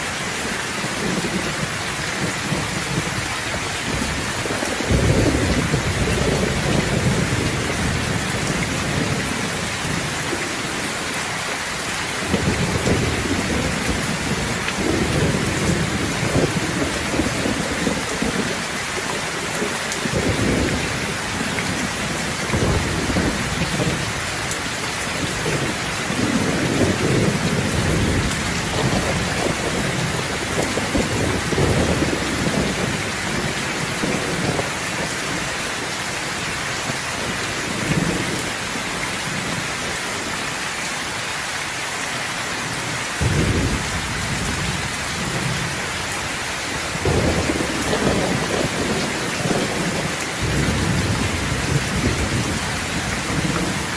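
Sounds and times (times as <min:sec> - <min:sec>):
rain falling: 0:00.0 - 0:53.9
thunder rumbling: 0:00.7 - 0:10.9, 0:12.2 - 0:35.9, 0:43.2 - 0:53.9.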